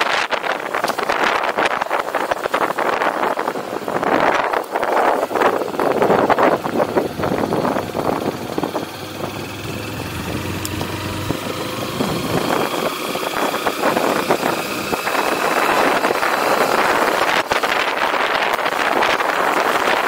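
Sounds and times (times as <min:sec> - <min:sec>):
wind rush on microphone: 0:00.0 - 0:20.0
motorcycle engine: 0:00.1 - 0:20.0.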